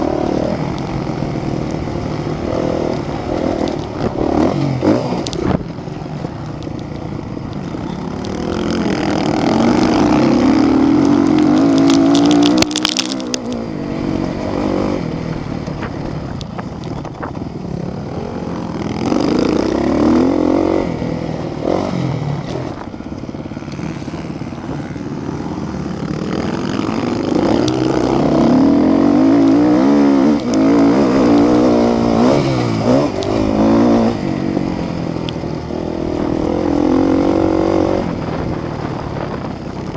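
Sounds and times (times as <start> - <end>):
engine crackle: 0.0 - 39.9
motorcycle engines revving: 0.0 - 39.9.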